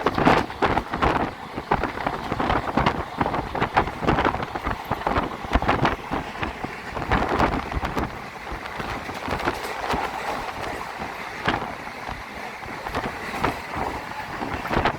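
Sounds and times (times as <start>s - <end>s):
train wheels on track: 0.0s - 14.9s
wheel and carriage rattles: 0.0s - 14.9s
wind on microphone: 0.0s - 14.9s.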